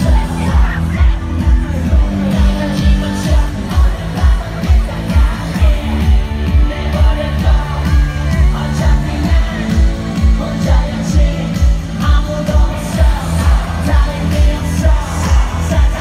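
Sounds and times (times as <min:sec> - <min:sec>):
pop concert music with singing: 0:00.0 - 0:16.0.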